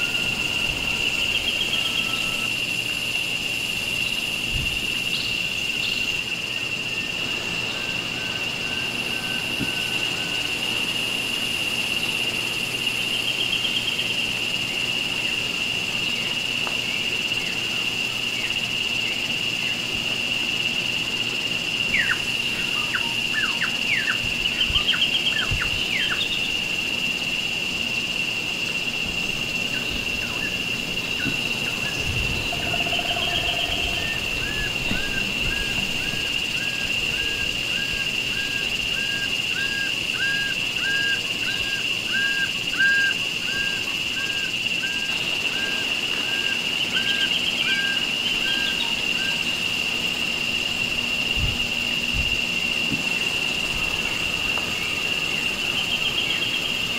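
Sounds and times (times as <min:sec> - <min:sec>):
high-pitched insect drone: 0:00.0 - 0:56.9.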